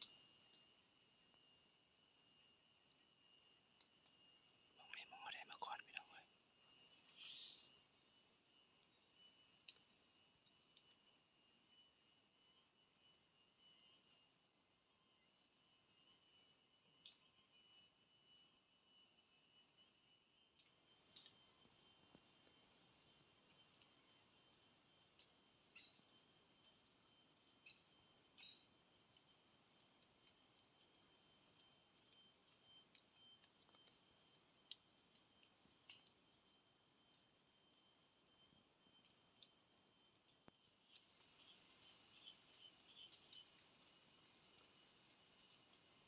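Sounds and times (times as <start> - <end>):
insect chirps: 0.0 - 46.0
insect drone: 0.0 - 46.0.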